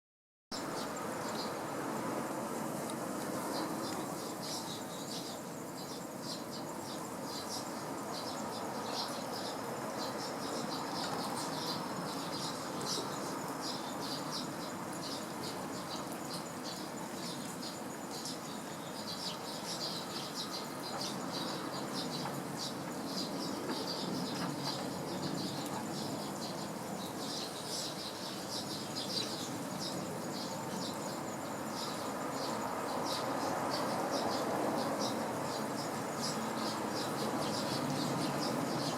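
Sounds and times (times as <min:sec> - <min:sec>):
sparrows chirping: 0:00.6 - 0:01.8, 0:03.4 - 0:38.9.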